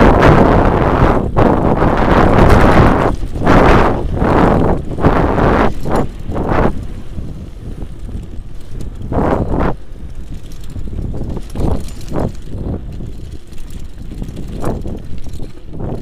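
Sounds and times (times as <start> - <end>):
bike rattling over bumps: 0.0 - 16.0
bike tyres rumbling on dirt: 0.0 - 16.0
wind over microphone: 0.0 - 16.0.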